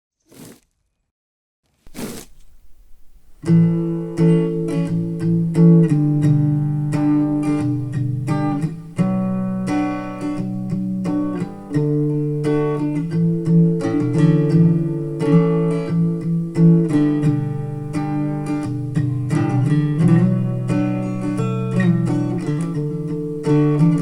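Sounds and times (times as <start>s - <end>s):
acoustic guitar strumming chords: 2.4s - 24.0s.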